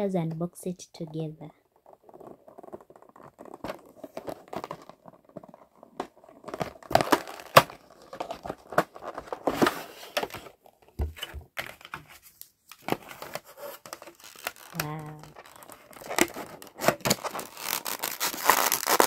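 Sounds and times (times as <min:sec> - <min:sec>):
packaging crinkling and tearing: 0:01.7 - 0:10.9, 0:11.6 - 0:19.0.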